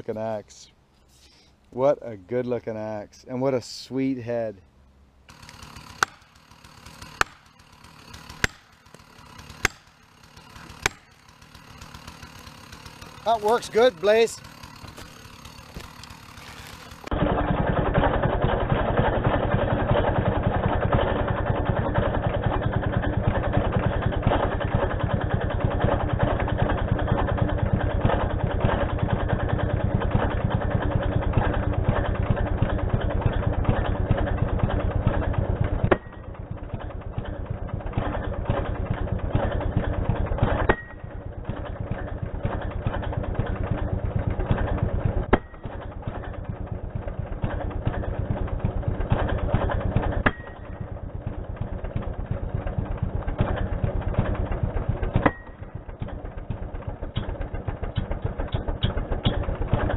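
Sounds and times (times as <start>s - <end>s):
chainsaw engine idling: 5.2s - 59.9s.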